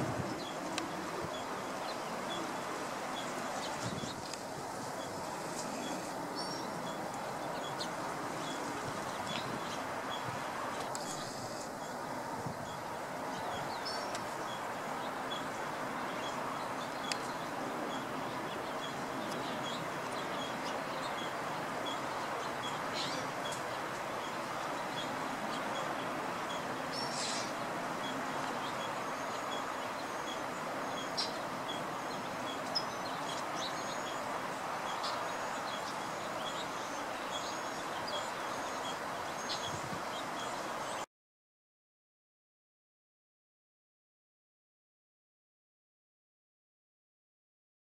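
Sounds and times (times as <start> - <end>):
steady background hiss: 0.0 - 41.0.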